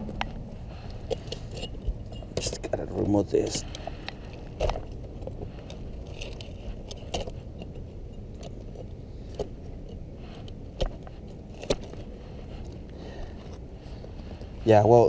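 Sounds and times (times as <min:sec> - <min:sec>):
steady low rumble: 0:00.0 - 0:15.0
clicks and scrapes on caulking: 0:01.0 - 0:14.2.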